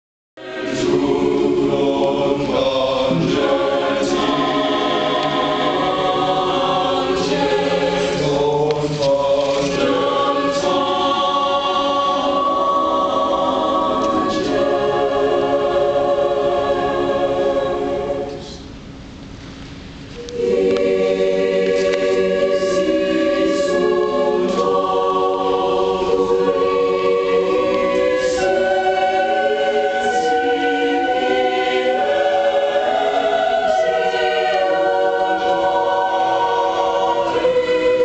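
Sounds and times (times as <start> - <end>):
choir singing a cappella: 0.4 - 18.7, 20.2 - 38.0.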